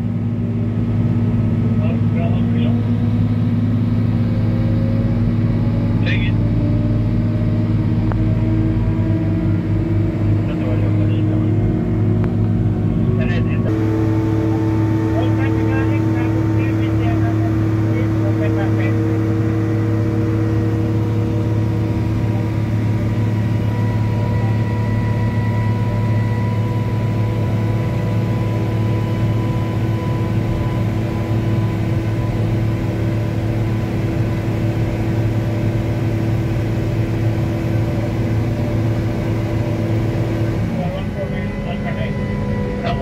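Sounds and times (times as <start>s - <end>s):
aircraft tug engine droning: 0.0s - 43.0s.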